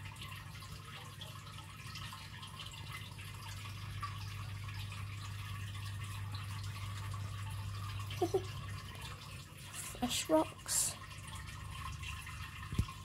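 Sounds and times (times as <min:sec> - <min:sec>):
fish tank filter splashing water: 0:00.0 - 0:13.0.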